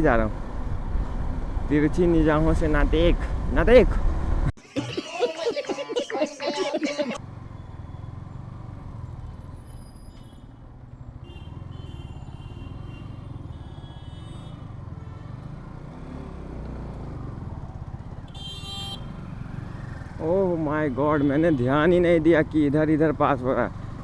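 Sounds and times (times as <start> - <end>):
motorcycle engine rumble: 0.0 - 4.6, 7.2 - 24.0.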